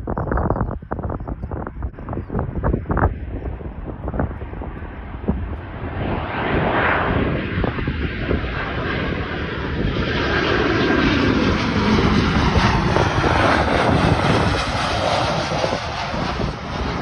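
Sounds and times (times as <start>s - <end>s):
wind on microphone: 0.0s - 17.0s
airliner passing by: 0.2s - 17.0s.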